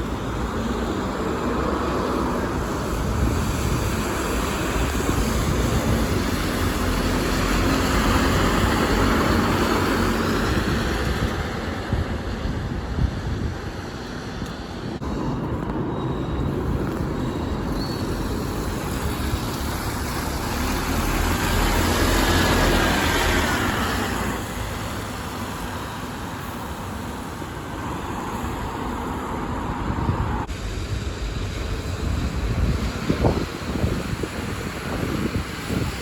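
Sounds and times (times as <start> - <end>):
bus driving past: 0.0 - 36.0.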